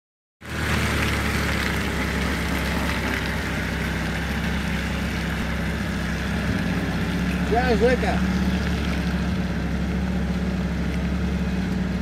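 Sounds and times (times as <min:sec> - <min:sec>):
engine idling: 0:00.4 - 0:12.0.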